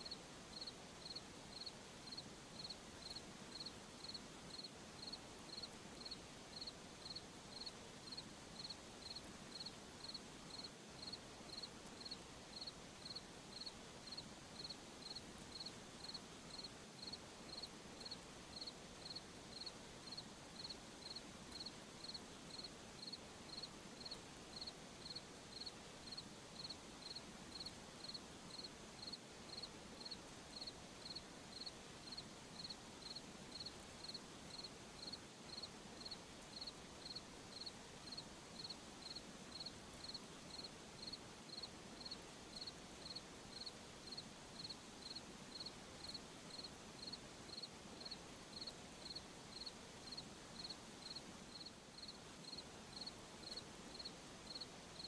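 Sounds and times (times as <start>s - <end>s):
cricket chirping: 0.0s - 55.0s
faint night ambience hiss: 0.0s - 55.0s.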